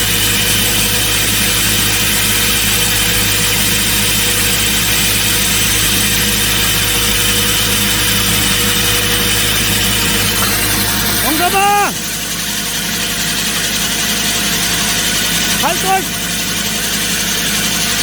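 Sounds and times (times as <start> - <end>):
hydraulic drill rig running: 0.0 - 18.0.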